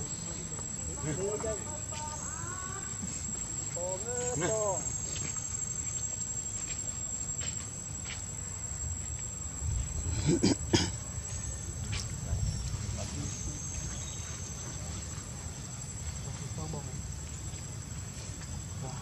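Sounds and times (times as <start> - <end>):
high insect whine: 0.0 - 19.0.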